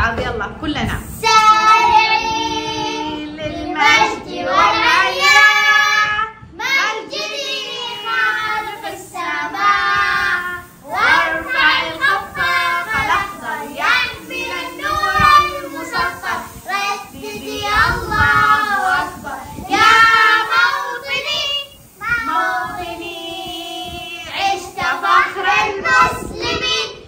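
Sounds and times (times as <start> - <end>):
child singing: 1.1 - 27.0.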